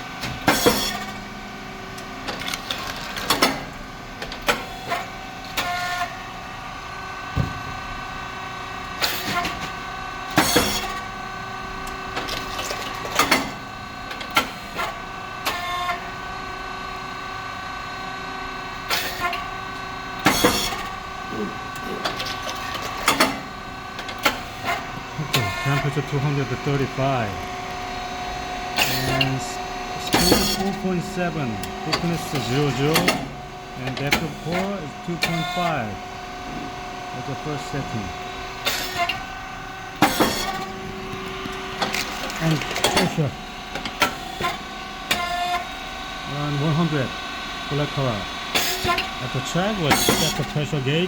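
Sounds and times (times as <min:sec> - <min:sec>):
machine motor hum: 0:00.0 - 0:51.0.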